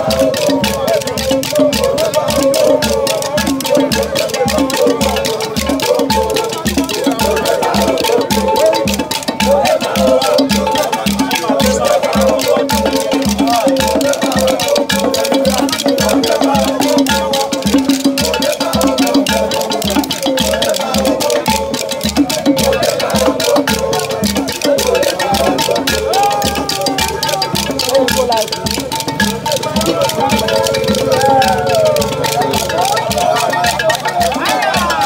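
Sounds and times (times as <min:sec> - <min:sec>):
rattling shaker percussion: 0:00.0 - 0:35.0
singing voices: 0:00.0 - 0:35.0
steady drum beat: 0:00.0 - 0:35.0.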